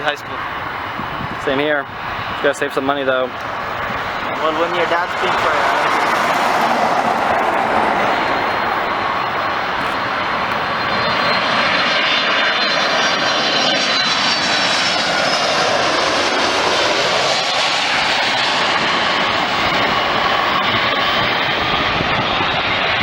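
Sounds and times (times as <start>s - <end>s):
airliner engines roaring: 0.0s - 23.0s.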